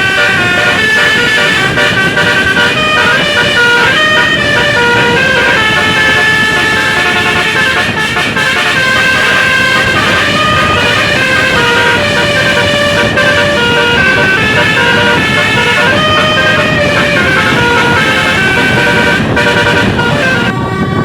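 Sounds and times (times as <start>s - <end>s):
musical bus horn playing a tune: 0.0s - 21.0s.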